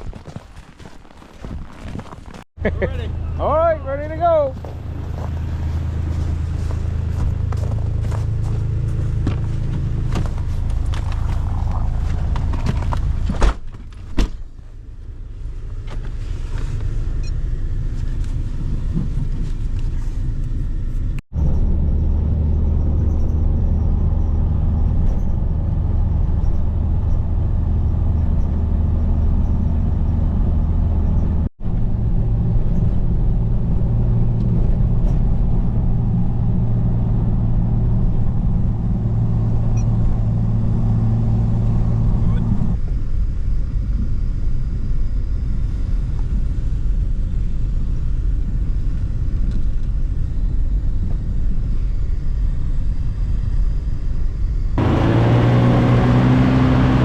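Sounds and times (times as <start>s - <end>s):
engine and road rumble: 0.0s - 57.0s.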